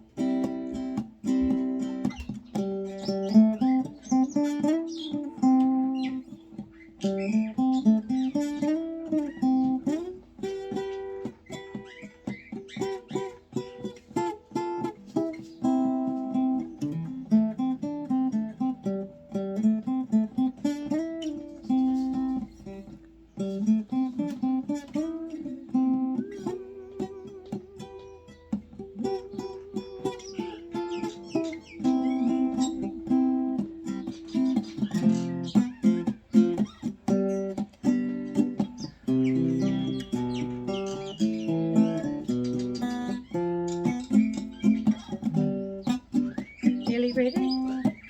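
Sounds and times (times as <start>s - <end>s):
acoustic guitar picking: 0.0s - 48.0s.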